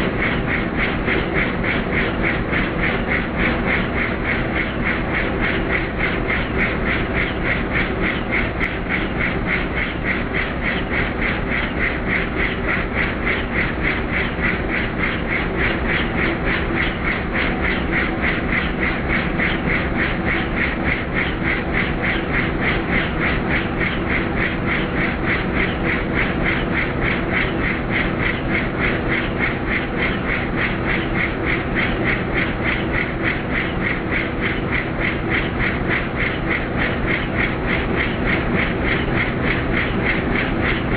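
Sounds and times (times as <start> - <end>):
helicopter engine noise: 0.0 - 40.9
helicopter rotor blades beating: 0.0 - 40.9.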